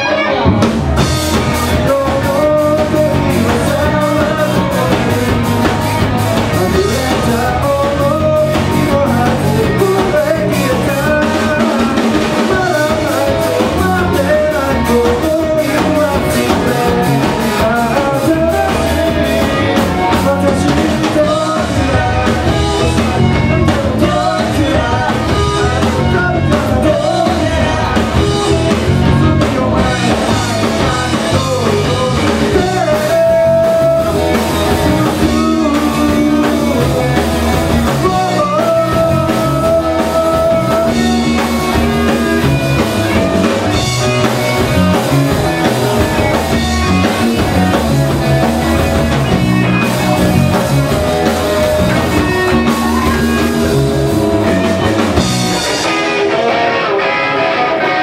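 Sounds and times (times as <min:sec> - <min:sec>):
drum kit: 0:00.0 - 0:58.0
electric bass: 0:00.0 - 0:58.0
electric guitars: 0:00.0 - 0:58.0.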